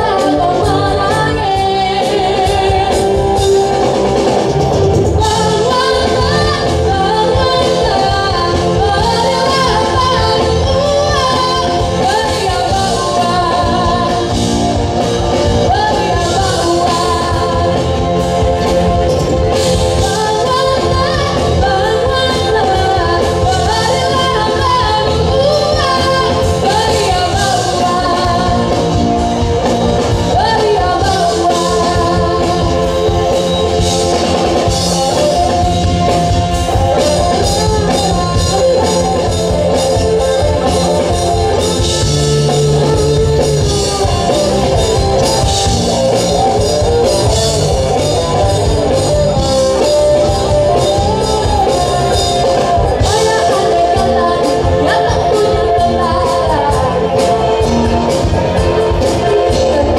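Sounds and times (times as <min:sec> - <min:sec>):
bass guitar: 0:00.0 - 0:59.9
drums: 0:00.0 - 0:59.9
electric guitar: 0:00.0 - 0:59.9
keyboard: 0:00.0 - 0:59.9
woman singing lead: 0:00.0 - 0:59.9.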